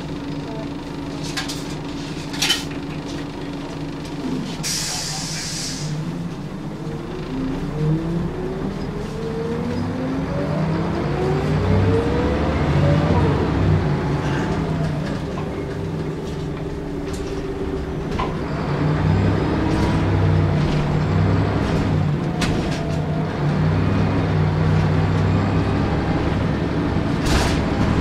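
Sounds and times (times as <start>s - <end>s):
low diesel engine drone: 0.0s - 28.0s.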